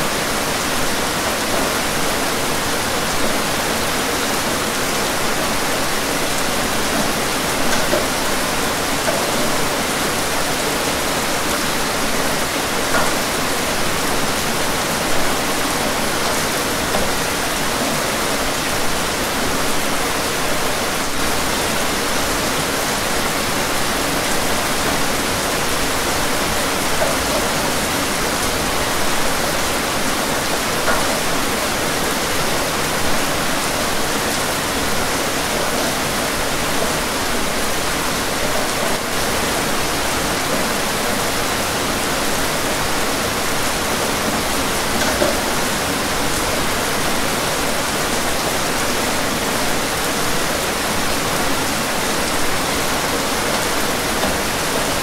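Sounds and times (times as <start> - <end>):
louder raindrops: 0.0 - 55.0
steady rain hiss: 0.0 - 55.0.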